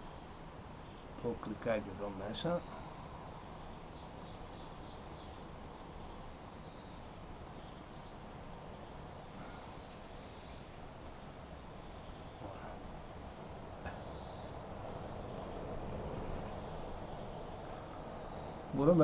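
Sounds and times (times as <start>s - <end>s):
faint bird chirping: 0.0s - 19.0s
low background hiss: 0.0s - 19.0s.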